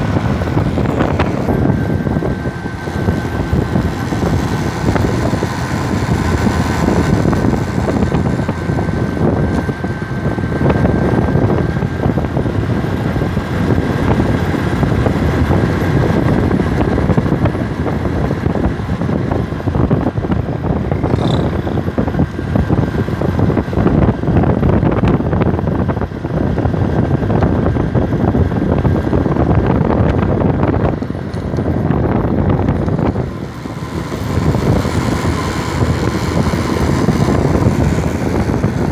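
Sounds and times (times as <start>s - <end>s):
motorcycle engine cruising: 0.0s - 38.9s
wind buffeting microphone: 0.0s - 38.9s.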